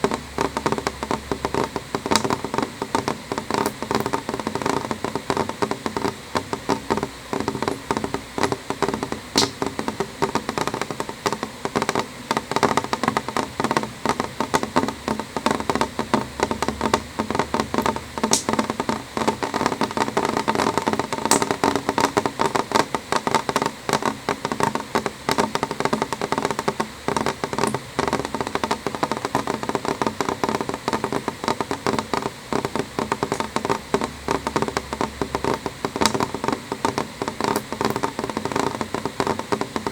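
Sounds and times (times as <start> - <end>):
rain pattering on window glass: 0.0 - 39.9.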